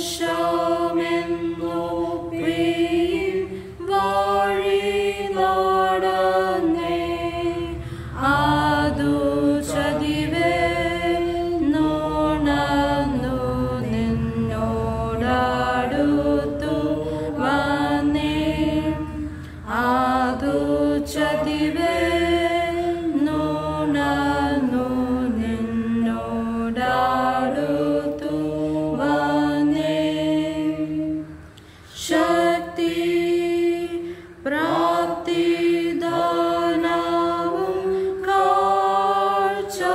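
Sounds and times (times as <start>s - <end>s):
person singing hymn unaccompanied: 0.0s - 39.9s.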